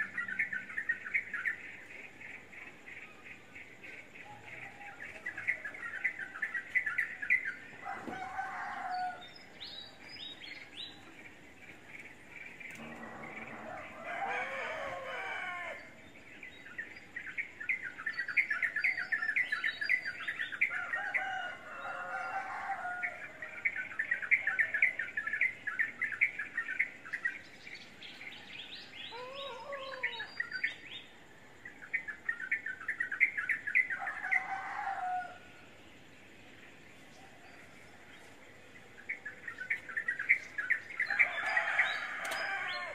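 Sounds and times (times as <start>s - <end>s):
lovebirds twittering: 0.0s - 35.4s, 37.0s - 42.9s.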